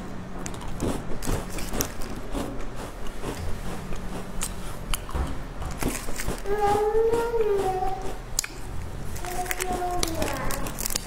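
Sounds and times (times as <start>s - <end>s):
biscuit crunching: 0.4s - 11.0s.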